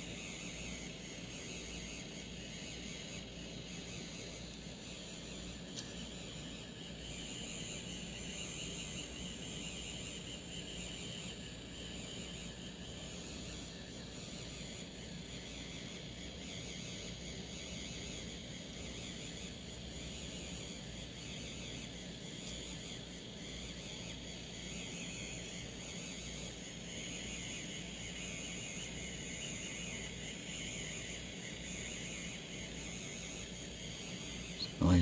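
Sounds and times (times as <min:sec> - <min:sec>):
small motor whining: 0:00.0 - 0:35.0.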